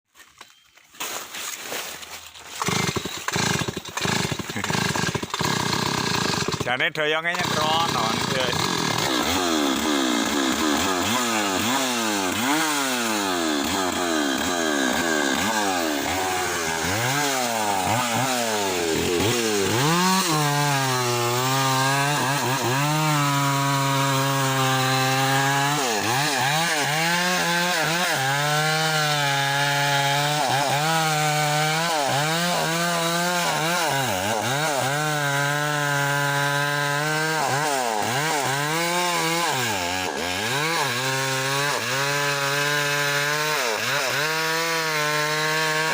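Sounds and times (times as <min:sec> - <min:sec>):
chainsaw cutting wood: 0:00.2 - 0:45.9
chainsaw revving: 0:02.4 - 0:45.9.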